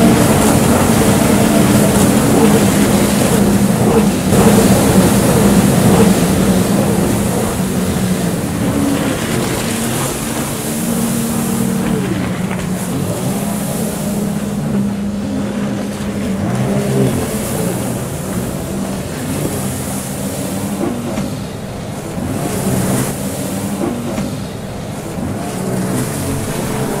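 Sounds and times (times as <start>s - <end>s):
jet ski engines droning: 0.0s - 27.0s.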